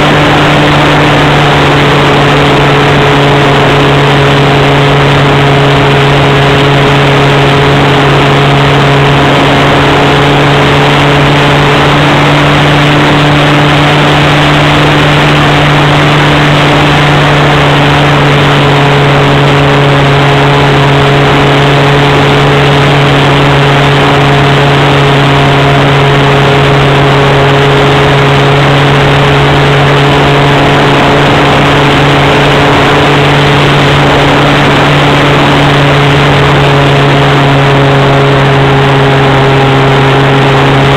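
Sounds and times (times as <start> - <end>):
model plane engine running: 0.0 - 40.9.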